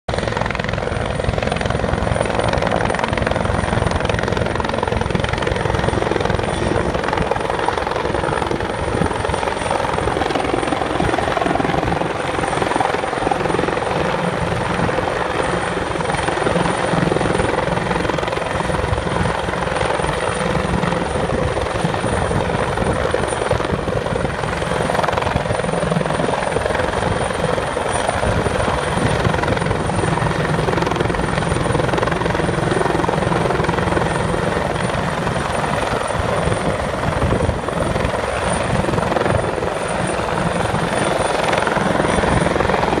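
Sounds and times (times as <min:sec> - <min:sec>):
helicopter hovering: 0:00.1 - 0:43.0.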